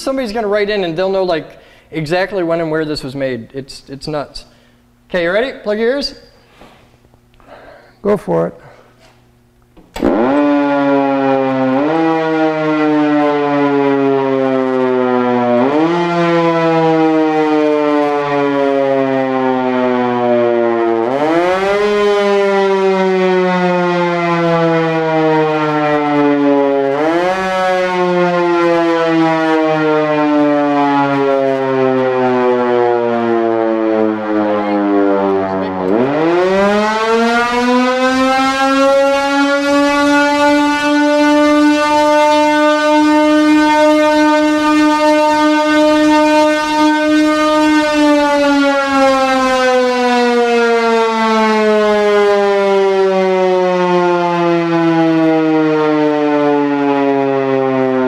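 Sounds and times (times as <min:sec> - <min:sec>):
mechanical siren wailing: 0:10.0 - 0:58.0.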